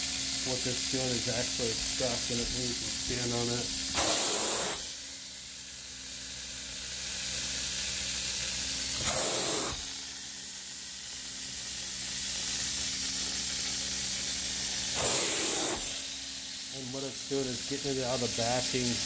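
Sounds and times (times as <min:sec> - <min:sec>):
carpet extraction vacuum suction hiss: 0:00.0 - 0:19.0.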